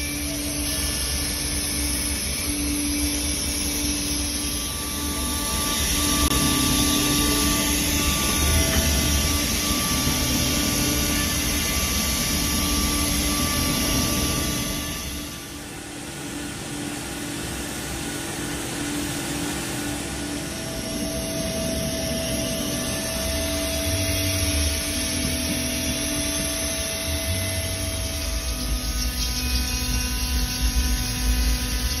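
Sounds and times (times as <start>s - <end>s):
milling machine spindle tone: 0.0s - 32.0s.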